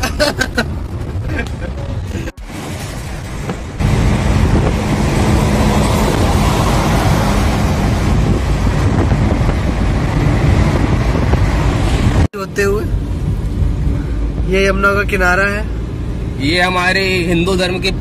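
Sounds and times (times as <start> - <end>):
low engine and tyre hum: 0.0 - 18.0
road and wind noise: 0.0 - 18.0.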